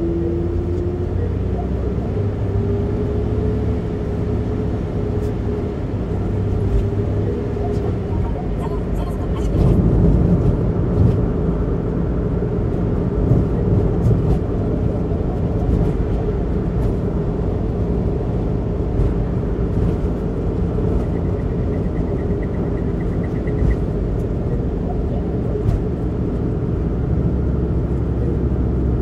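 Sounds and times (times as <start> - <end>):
tyre and road noise: 0.0 - 29.0.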